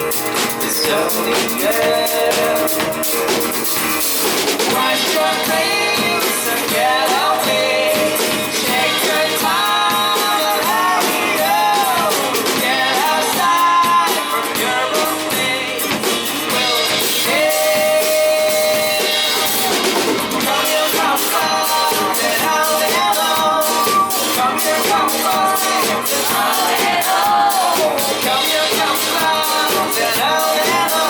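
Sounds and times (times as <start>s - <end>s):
acoustic guitar: 0.0s - 31.0s
bass guitar: 0.0s - 31.0s
drums with steady beat: 0.0s - 31.0s
person singing: 0.0s - 31.0s.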